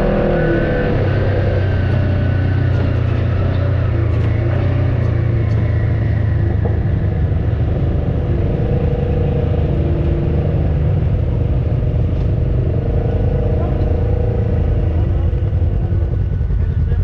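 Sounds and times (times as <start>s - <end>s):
off-road vehicle engine rumbling: 0.0s - 17.0s.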